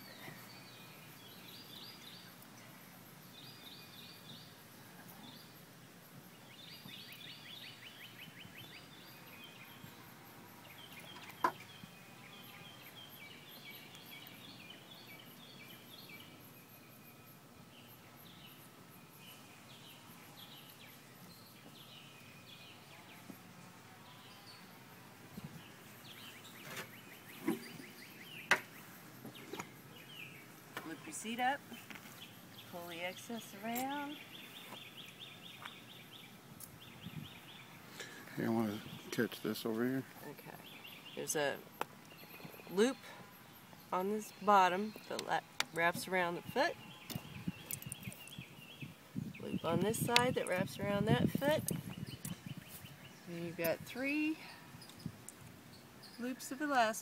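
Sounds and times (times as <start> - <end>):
birds chirping and trilling: 6.3 - 23.4, 25.4 - 57.0.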